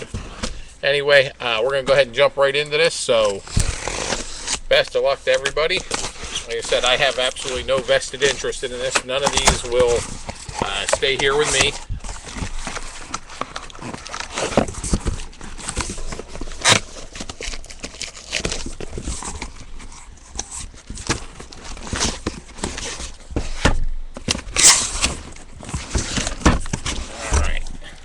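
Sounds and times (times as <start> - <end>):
cardboard box being handled: 5.4 - 27.8.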